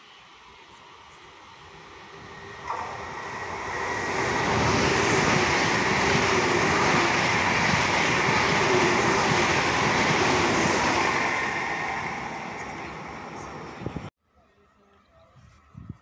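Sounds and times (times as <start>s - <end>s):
train wheels rushing on rail: 0.0s - 14.1s.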